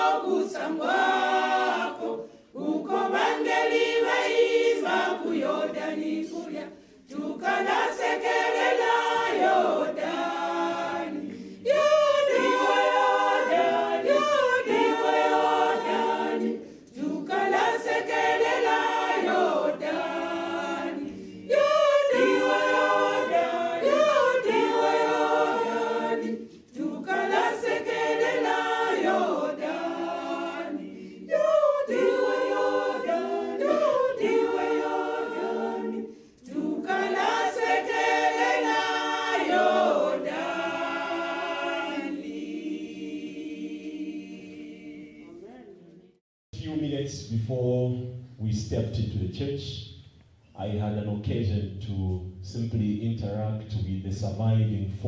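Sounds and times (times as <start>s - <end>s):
choir singing a hymn: 0.0s - 46.2s.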